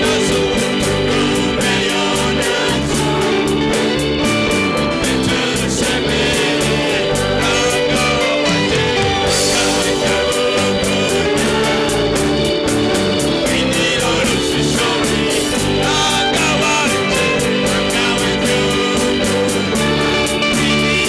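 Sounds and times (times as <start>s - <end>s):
guitar: 0.0s - 21.0s
person singing: 0.0s - 21.0s
steady drum beat: 0.0s - 21.0s.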